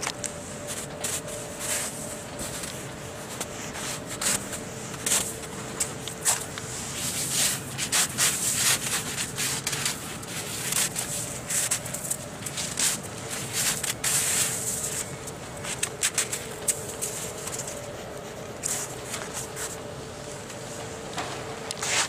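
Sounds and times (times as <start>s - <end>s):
gloved hand rubbing snow: 0.6s - 5.5s, 6.2s - 19.8s.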